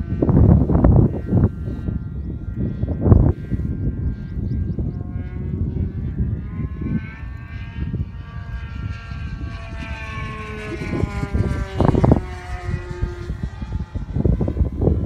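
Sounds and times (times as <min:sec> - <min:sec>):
model plane engine whining: 0:00.0 - 0:15.0
wind buffeting microphone: 0:00.0 - 0:15.0.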